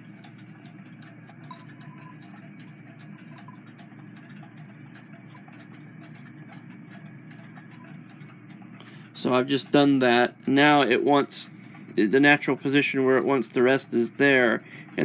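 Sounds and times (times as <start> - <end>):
screwdriver metallic ticks: 0.0 - 15.0.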